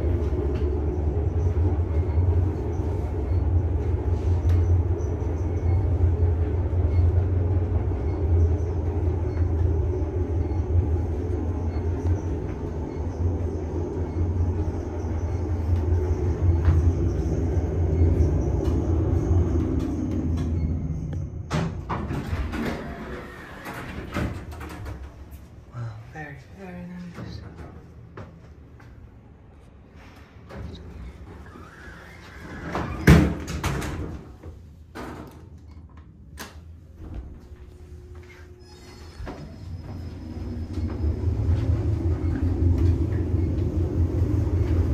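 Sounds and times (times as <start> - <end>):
elevator car rumble: 0.0 - 25.8, 27.1 - 44.9.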